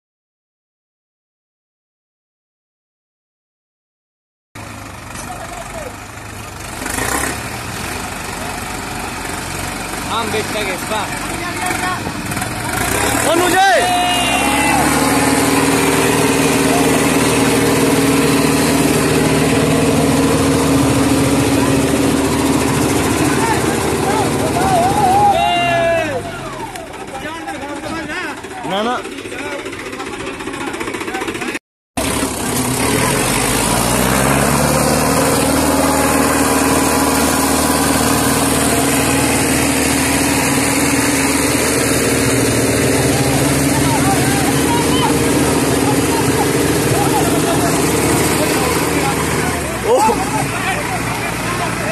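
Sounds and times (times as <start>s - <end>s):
tractor diesel engines under load: 4.6s - 51.9s.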